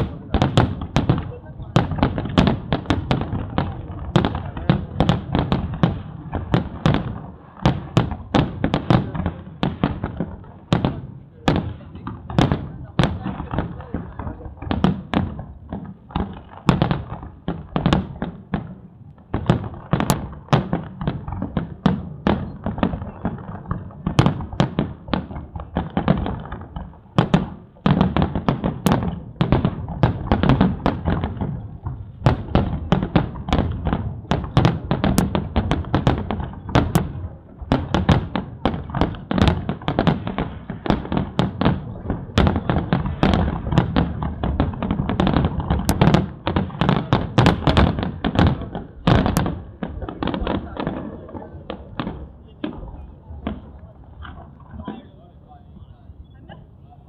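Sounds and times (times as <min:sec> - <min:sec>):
fireworks booming and cracking: 0:00.0 - 0:57.0.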